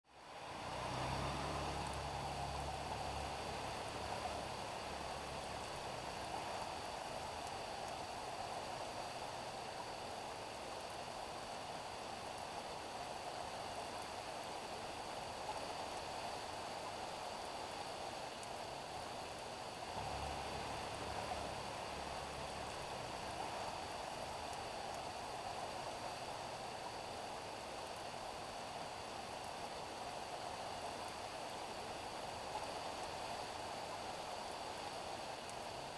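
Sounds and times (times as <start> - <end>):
rain falling on street: 0.2 - 35.9.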